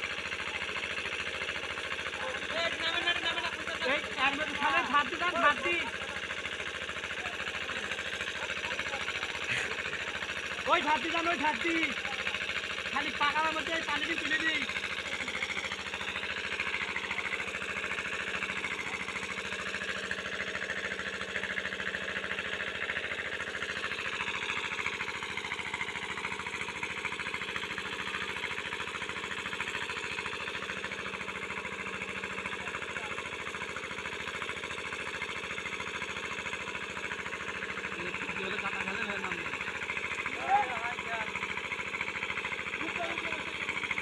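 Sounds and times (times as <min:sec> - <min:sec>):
small engine knocking: 0:00.0 - 0:44.0.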